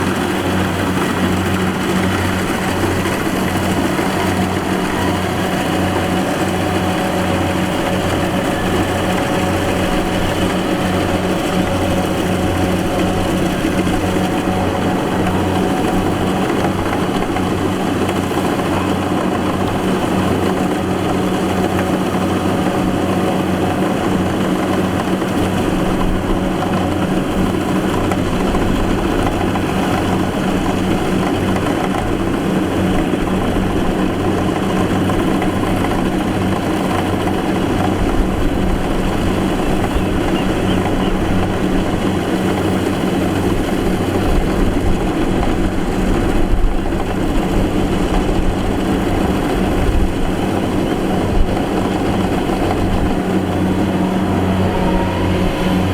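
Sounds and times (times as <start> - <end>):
diesel engine running under load: 0.0 - 55.9
machinery rattling and whirring: 0.0 - 55.9.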